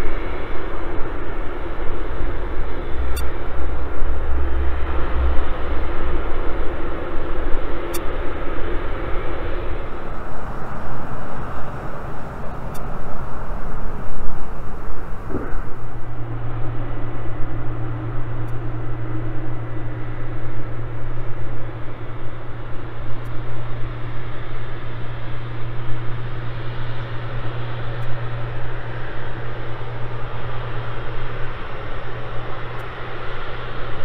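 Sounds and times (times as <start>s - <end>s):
jet engine rumble: 0.0s - 34.0s
strong low hum: 0.0s - 34.0s.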